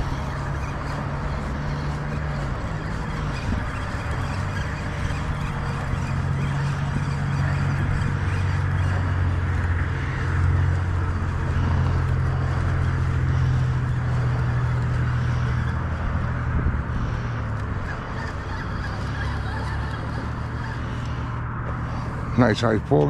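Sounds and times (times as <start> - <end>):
road traffic drone: 0.0 - 23.0.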